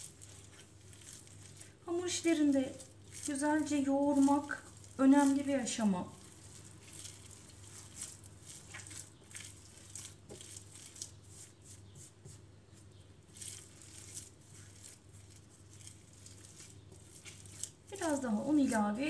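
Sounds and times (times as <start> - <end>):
hands kneading dough: 0.0 - 19.0.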